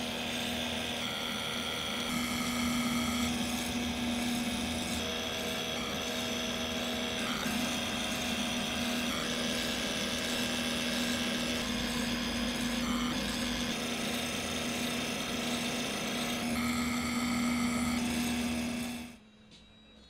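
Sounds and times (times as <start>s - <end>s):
blade shaving leather: 0.0s - 19.2s
leather skiving machine humming: 0.0s - 19.2s.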